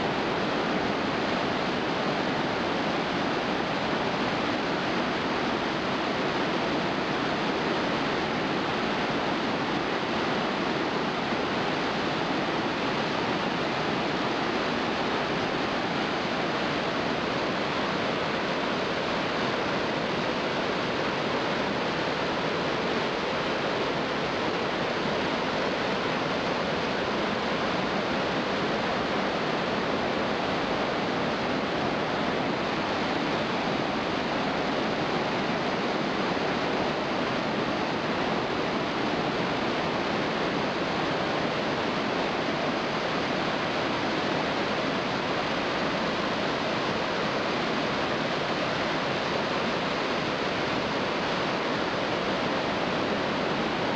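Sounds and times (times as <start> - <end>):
rush of falling water: 0.0 - 53.9.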